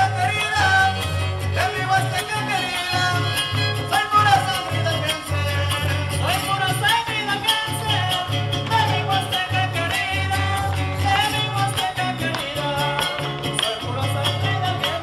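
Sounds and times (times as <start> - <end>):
folk dance music with strummed strings: 0.0 - 15.0.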